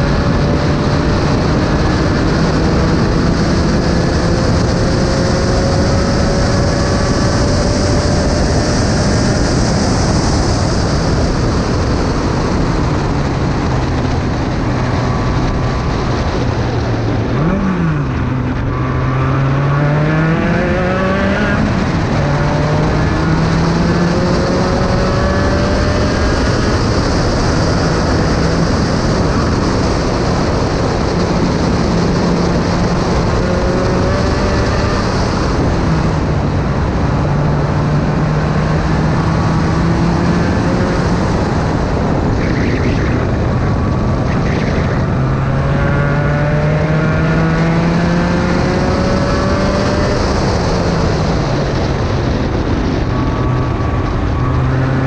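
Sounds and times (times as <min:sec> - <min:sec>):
racing car engine: 0:00.0 - 0:55.0
wind rush: 0:00.0 - 0:55.0.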